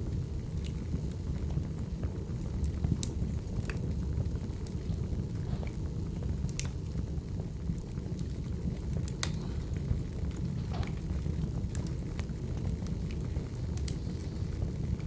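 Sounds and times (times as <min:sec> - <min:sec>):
fire crackling pops: 0:00.0 - 0:15.0
wood fire rumbling: 0:00.0 - 0:15.0.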